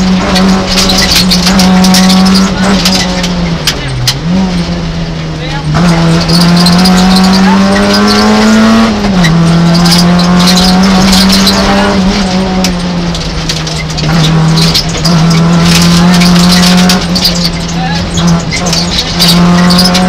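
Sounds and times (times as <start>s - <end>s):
car engine at high revs: 0.0s - 20.0s.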